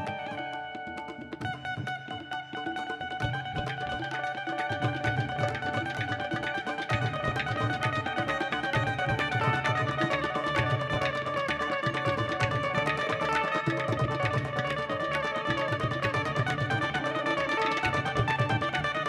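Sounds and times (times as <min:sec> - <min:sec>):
fusion ensemble music: 0:00.0 - 0:18.5.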